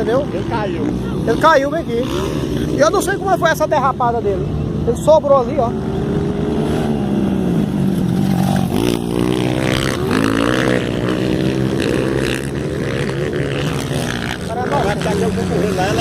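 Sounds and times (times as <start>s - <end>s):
motocross motorcycle engines revving: 0.0s - 16.0s.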